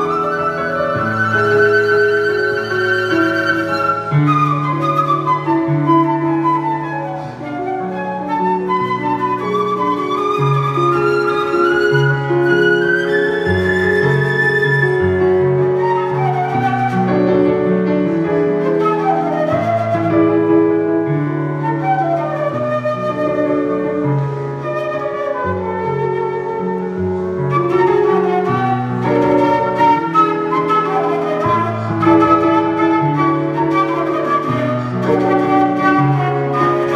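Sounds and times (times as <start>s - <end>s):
flute melody: 0.0s - 36.9s.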